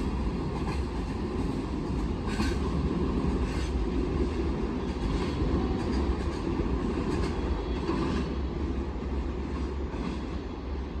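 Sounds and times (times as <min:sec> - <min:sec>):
train wagons rumbling: 0:00.0 - 0:11.0.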